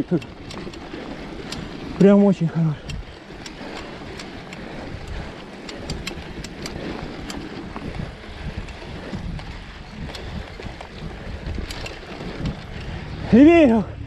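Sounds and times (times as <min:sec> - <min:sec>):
sharp clicks and rattles: 0:00.0 - 0:13.4
bike tyres rolling through sand: 0:00.0 - 0:14.0
wind on microphone: 0:00.5 - 0:14.0.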